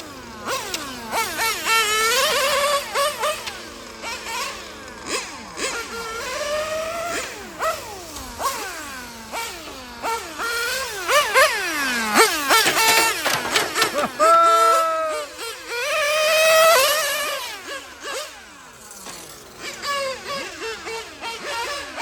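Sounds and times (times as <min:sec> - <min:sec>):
nitro engine revving high: 0:00.0 - 0:22.0.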